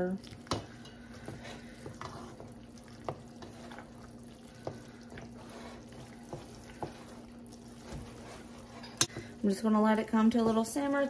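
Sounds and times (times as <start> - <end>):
sauce bubbling: 0.0 - 9.4
steady low hum: 0.0 - 11.0.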